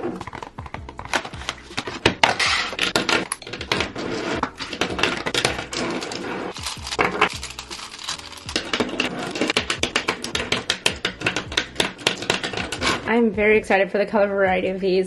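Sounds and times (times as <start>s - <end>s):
plastic case opening: 0.0s - 13.0s
pens clicking and clattering: 0.1s - 13.0s.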